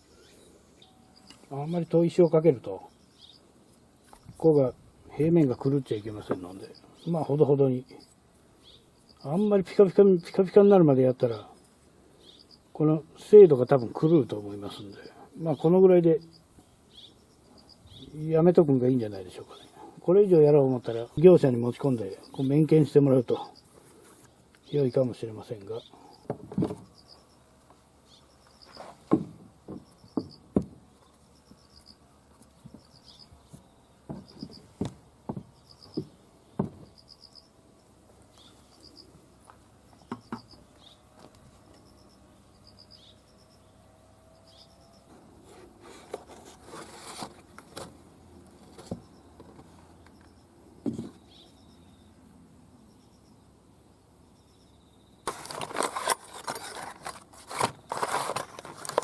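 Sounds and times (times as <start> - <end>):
insect chirping: 0.0 - 45.5, 47.5 - 59.0.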